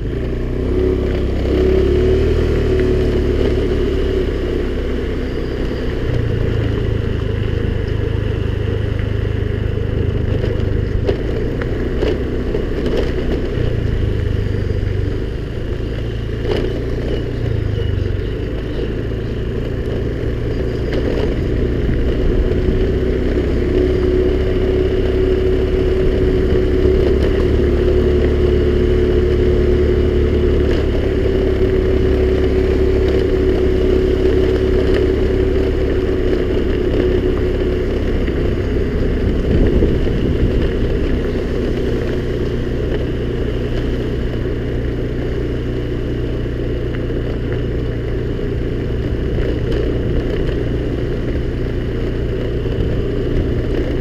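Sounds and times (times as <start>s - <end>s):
scooter engine running: 0.0s - 54.0s.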